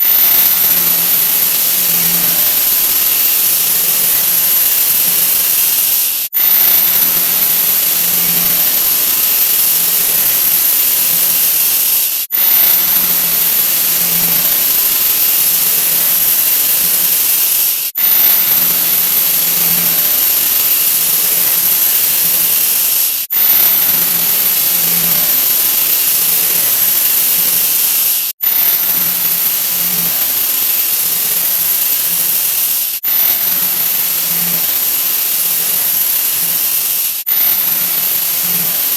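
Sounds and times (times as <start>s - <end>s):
loud steady hiss: 0.0s - 38.9s.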